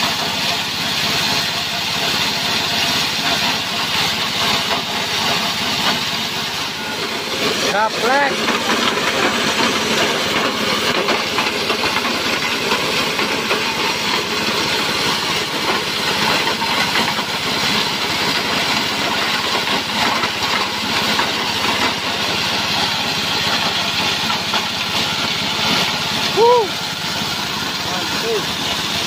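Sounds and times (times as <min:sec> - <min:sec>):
petrol engine grinder din: 0:00.0 - 0:29.0.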